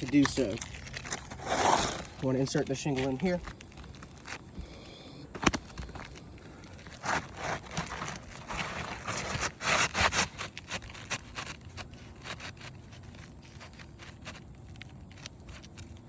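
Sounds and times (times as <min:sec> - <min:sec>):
shingle scraping against shingles: 0:00.0 - 0:16.0.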